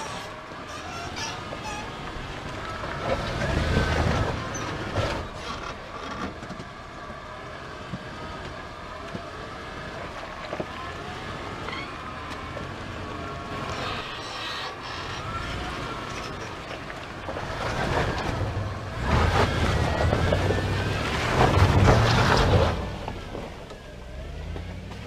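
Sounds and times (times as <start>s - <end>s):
car engine rumble: 0.0s - 25.0s
tyre and body noise on dirt road: 0.0s - 25.0s.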